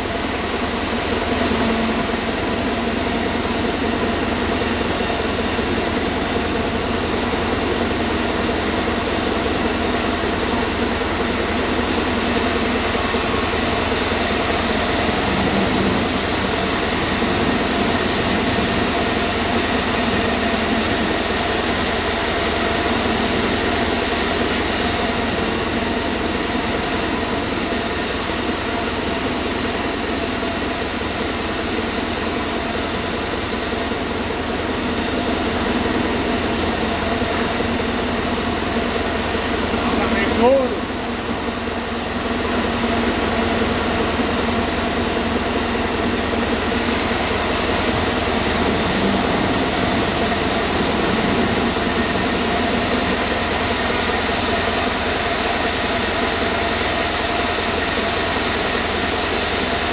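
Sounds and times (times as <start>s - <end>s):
band sawmill sawing log: 0.0s - 59.9s.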